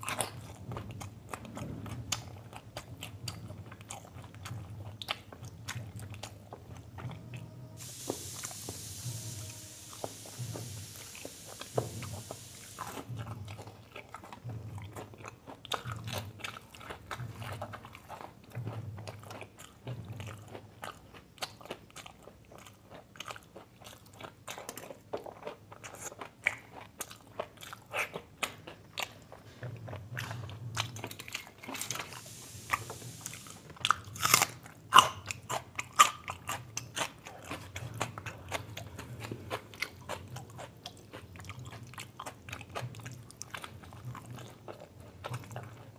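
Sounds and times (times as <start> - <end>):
person chewing: 0.0 - 9.0, 9.8 - 45.9.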